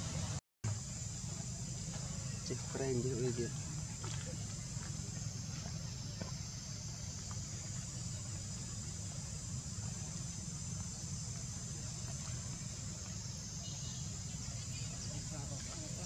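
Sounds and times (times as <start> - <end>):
high-pitched insect buzz: 0.7 - 16.0.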